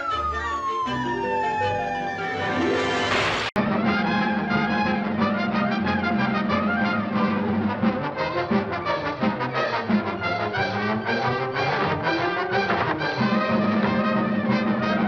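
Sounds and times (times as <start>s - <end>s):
orchestral cartoon chase music: 0.0s - 15.0s.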